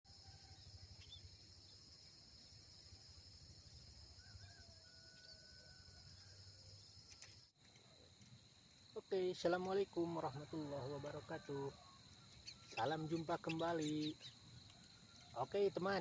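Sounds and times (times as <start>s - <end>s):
insect trill: 0.0s - 16.0s.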